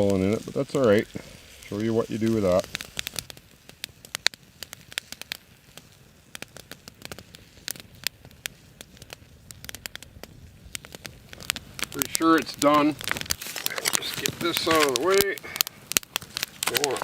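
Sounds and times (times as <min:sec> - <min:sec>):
campfire coals crackling and popping: 0:00.0 - 0:17.0
faint hiss: 0:00.0 - 0:17.0.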